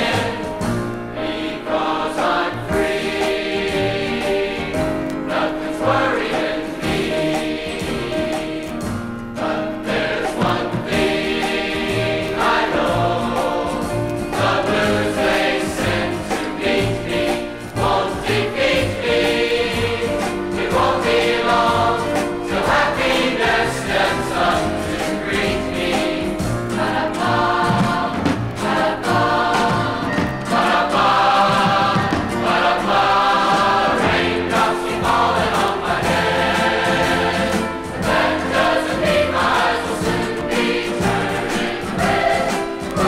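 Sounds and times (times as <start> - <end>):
choir singing in harmony: 0.0 - 43.0
instrumental accompaniment: 0.0 - 43.0.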